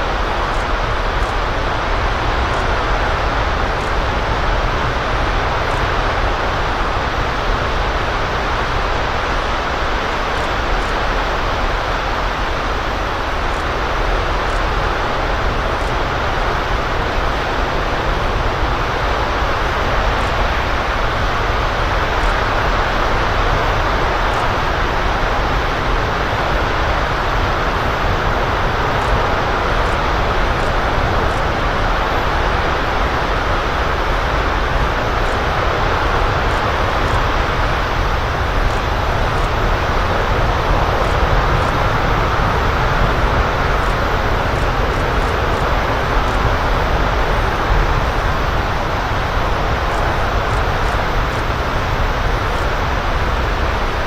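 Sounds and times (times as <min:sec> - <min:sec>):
distant rocket engine roaring: 0:00.0 - 0:54.0.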